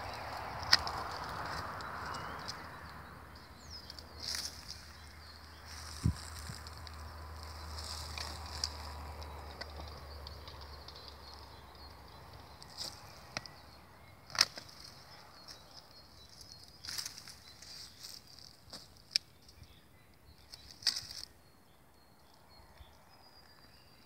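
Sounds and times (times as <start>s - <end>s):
branches rustling: 0.0s - 19.4s, 20.4s - 21.3s.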